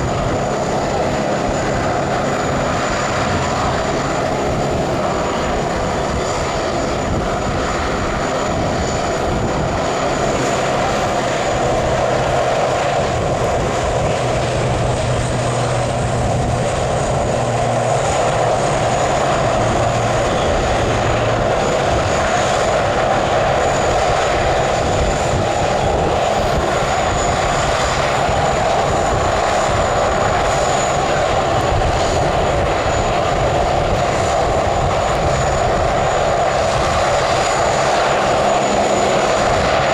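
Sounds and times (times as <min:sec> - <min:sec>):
aircraft engines running: 0:00.0 - 0:39.9.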